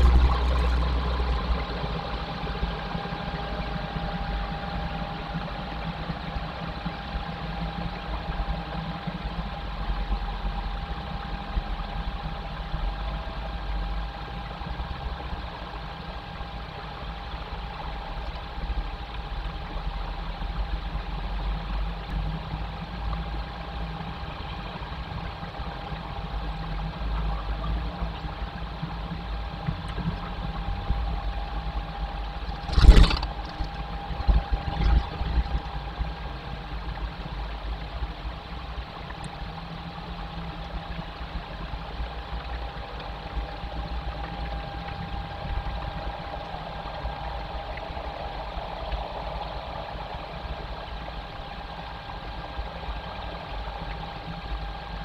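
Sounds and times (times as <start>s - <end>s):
faint constant hum: 0.0s - 55.0s
low rumble and hiss: 0.0s - 55.0s.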